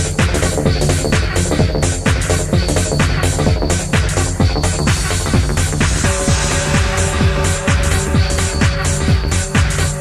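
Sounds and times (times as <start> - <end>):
electronic dance music: 0.0 - 10.0
steady kick drum: 0.0 - 10.0.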